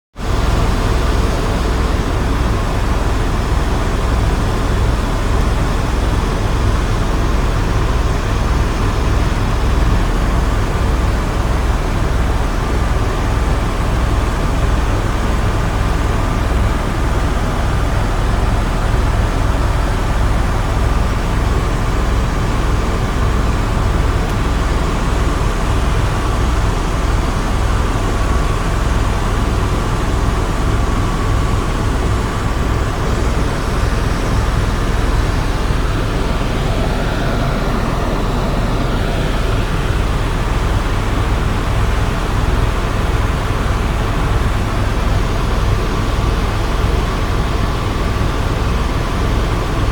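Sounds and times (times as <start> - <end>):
helicopter rotor beating: 0.2 - 49.9
turbine whine: 0.2 - 49.9.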